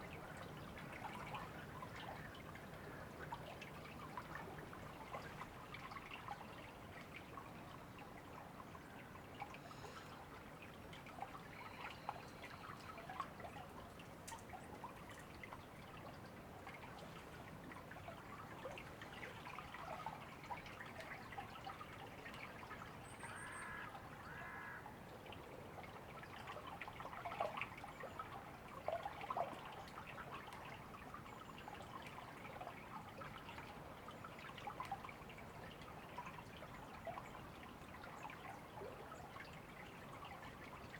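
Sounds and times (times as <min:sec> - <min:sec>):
river water running: 0:00.0 - 0:40.9.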